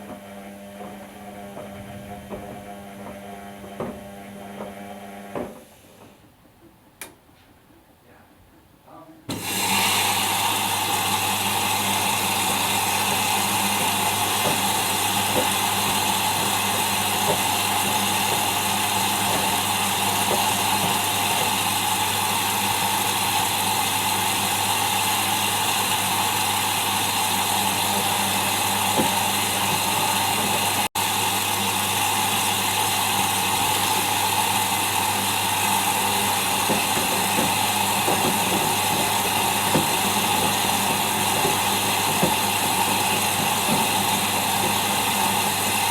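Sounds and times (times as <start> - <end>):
washing machine spinning: 0.0 - 6.9, 9.3 - 45.9.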